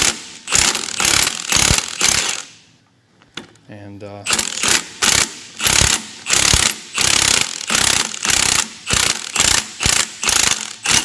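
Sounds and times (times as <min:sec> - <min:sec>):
impact wrench hammering: 0:00.0 - 0:02.5, 0:04.3 - 0:11.0.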